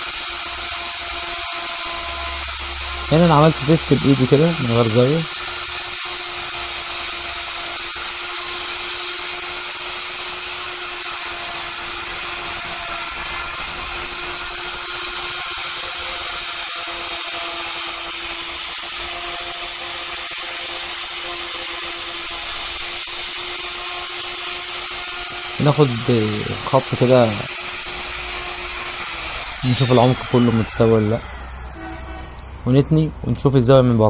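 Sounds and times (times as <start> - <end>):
hiss of router cutting: 0.0 - 32.0
wood router whining: 0.0 - 32.6.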